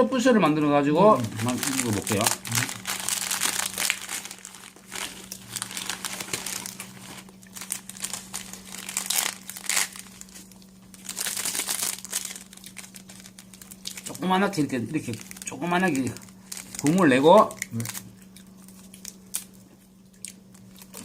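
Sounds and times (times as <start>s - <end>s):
faint steady hum: 0.0s - 21.0s
plastic wrapper crinkling: 1.0s - 19.6s, 20.4s - 21.0s
dried noodles breaking: 1.2s - 21.0s.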